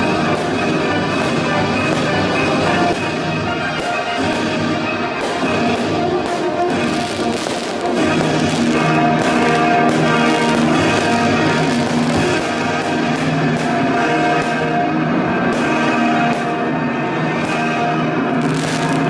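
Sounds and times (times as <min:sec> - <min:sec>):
held music chords: 0:00.0 - 0:19.0.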